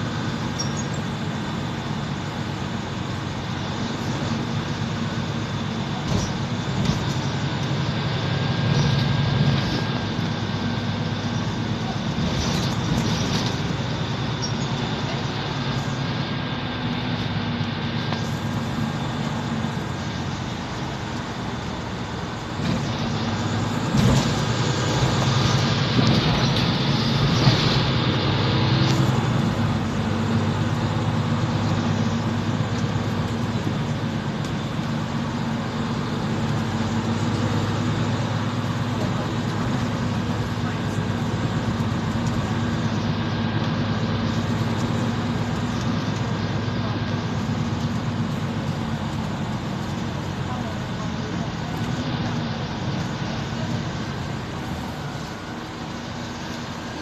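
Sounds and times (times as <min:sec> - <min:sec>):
bus engine running: 0:00.0 - 0:57.0
road noise: 0:00.0 - 0:57.0.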